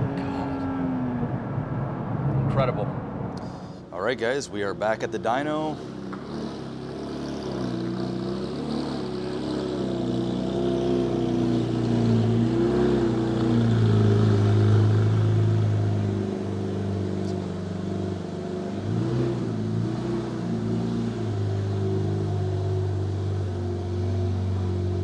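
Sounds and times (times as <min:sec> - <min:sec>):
car engine at low revs: 0:00.0 - 0:25.0.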